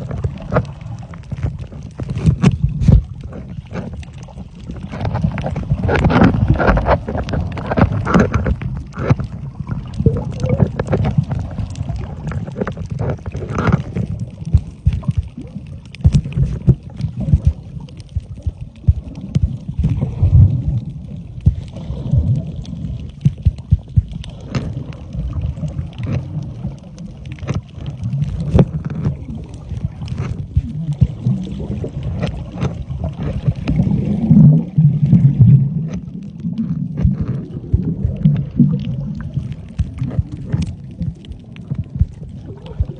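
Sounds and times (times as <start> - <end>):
air bubbles gurgling: 0.0 - 42.9
muffled underwater water rumble: 0.0 - 42.9
sharp clicks and crackles: 0.0 - 42.9.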